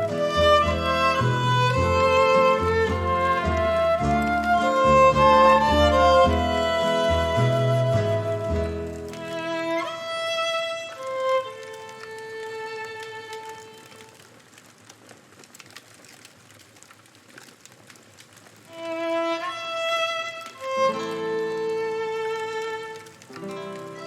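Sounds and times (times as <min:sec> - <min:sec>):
slow violin music: 0:00.0 - 0:14.3, 0:18.7 - 0:24.0
campfire crackling: 0:00.0 - 0:24.0.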